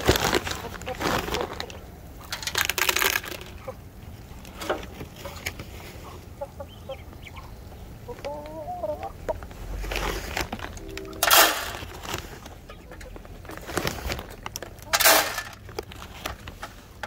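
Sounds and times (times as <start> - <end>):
hens clucking: 0.0 - 2.4, 3.2 - 15.9.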